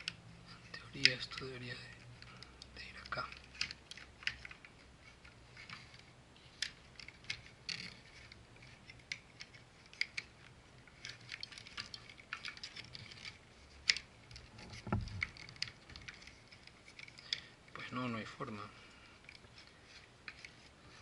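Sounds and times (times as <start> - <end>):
plastic toy parts clicking: 0.0 - 17.8, 19.2 - 21.0.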